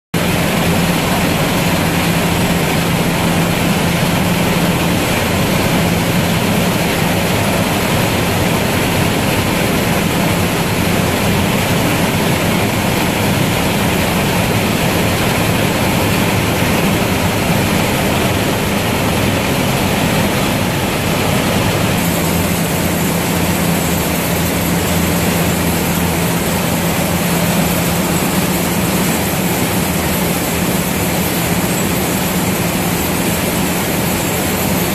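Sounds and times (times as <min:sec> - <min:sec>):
conveyors clattering: 0:00.2 - 0:34.9
hop picking machine humming: 0:00.2 - 0:34.9.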